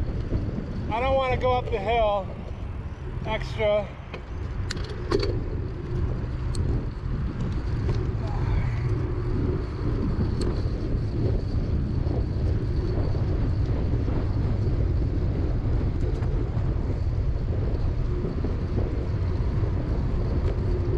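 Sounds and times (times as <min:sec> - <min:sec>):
wind rushing over microphone: 0:00.0 - 0:20.9.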